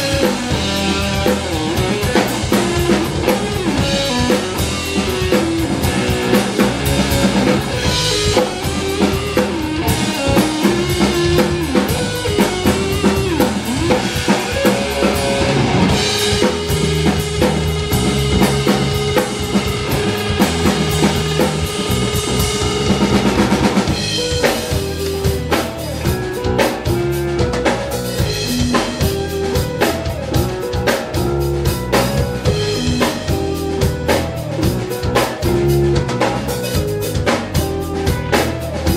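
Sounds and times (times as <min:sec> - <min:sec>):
drum kit: 0:00.0 - 0:38.9
live rock band playing: 0:00.0 - 0:38.9.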